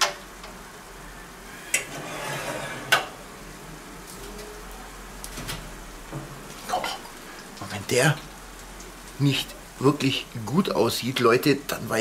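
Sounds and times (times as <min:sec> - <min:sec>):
faint meat sizzle: 0:00.0 - 0:12.0.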